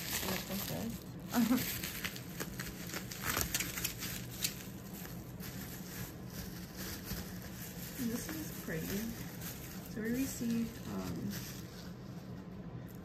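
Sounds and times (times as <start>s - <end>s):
bubble wrap crinkling: 0.0s - 13.0s
low steady hum: 0.0s - 13.0s.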